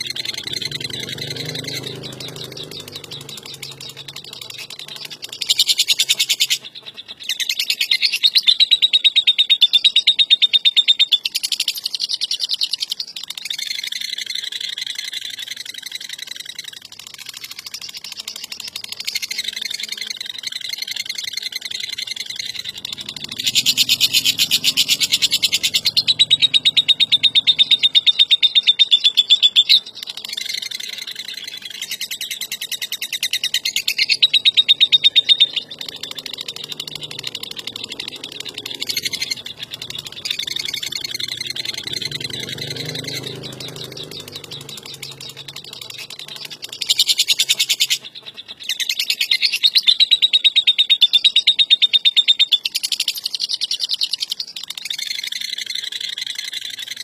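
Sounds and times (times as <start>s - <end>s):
lovebird chattering trills: 0.0s - 57.0s.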